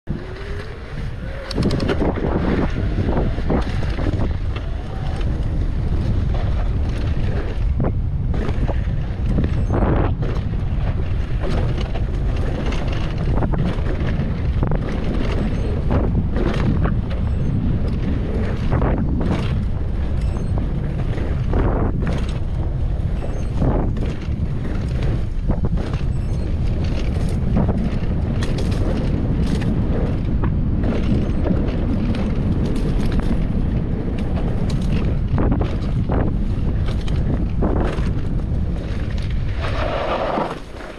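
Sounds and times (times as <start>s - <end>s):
wind rushing over microphone: 0.0s - 40.9s
bike knocking and rattling: 0.1s - 40.9s
tyres rumbling on dirt: 0.1s - 40.9s.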